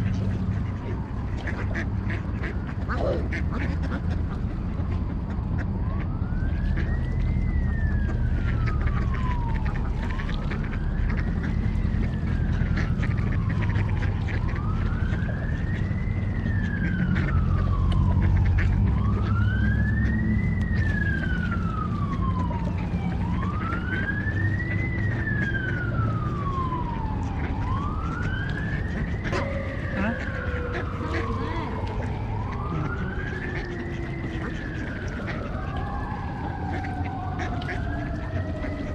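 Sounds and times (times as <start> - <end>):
emergency siren wailing: 0.0 - 38.9
second siren tone: 2.8 - 3.7, 5.8 - 38.9.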